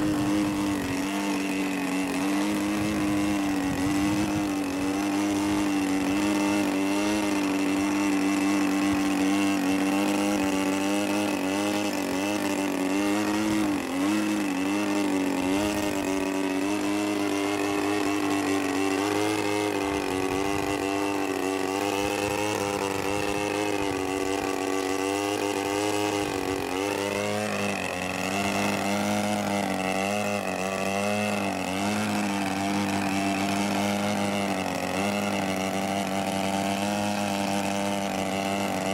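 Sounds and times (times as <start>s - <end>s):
two-stroke model plane engine: 0.0s - 38.9s.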